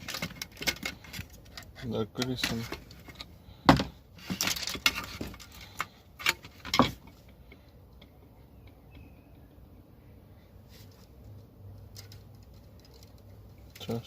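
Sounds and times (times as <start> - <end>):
clicks and knocks of parts handled: 0.0 - 8.8, 10.8 - 14.0.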